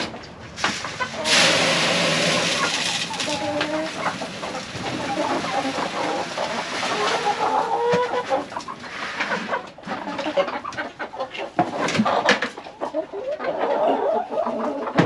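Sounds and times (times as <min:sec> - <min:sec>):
hens clucking: 0:00.1 - 0:15.0.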